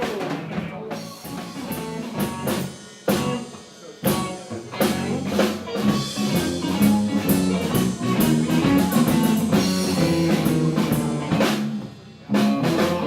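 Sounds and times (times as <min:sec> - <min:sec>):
live blues rock band: 0:00.0 - 0:13.0.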